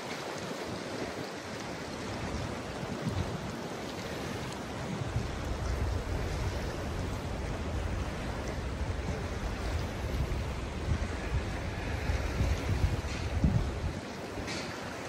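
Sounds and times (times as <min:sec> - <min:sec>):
sea waves on shore: 0:00.0 - 0:15.0
wind buffeting microphone: 0:00.0 - 0:15.0.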